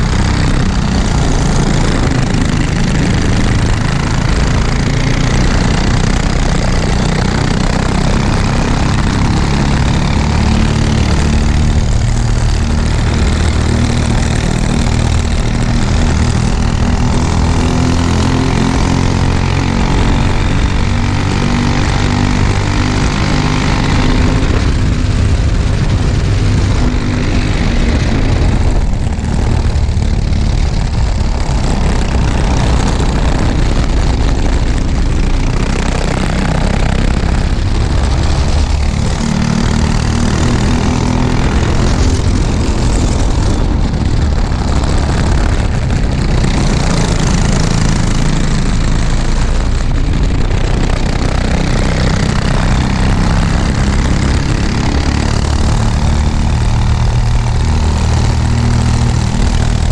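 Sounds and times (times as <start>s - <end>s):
racing kart engine running hard: 0.0s - 59.9s.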